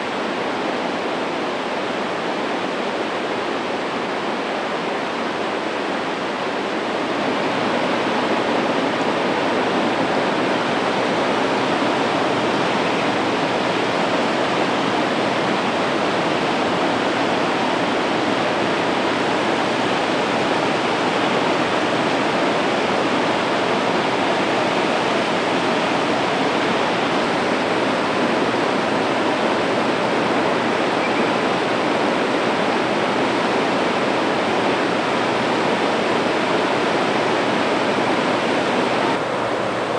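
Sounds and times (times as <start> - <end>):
waterfall thundering: 0.0 - 39.9.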